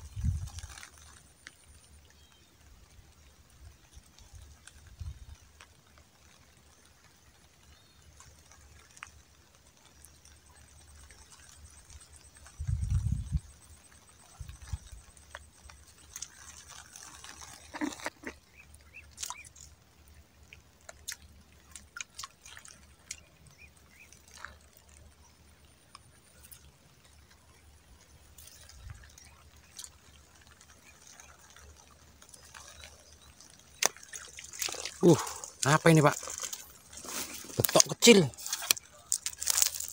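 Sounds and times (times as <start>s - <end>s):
water drips and clicks: 0.1s - 39.9s.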